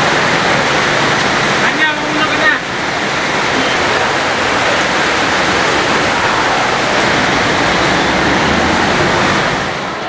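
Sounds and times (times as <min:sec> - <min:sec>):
steady loud rushing noise: 0:00.0 - 0:10.0.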